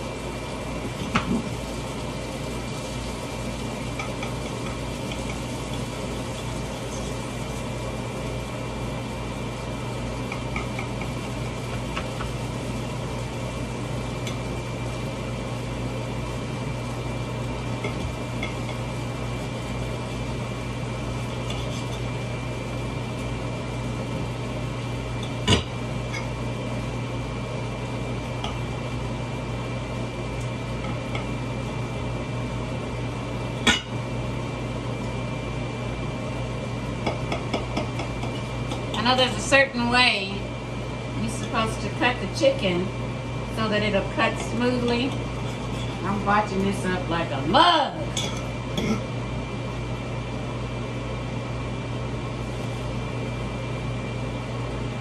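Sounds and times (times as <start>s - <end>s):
kitchen appliance humming: 0.0s - 55.0s.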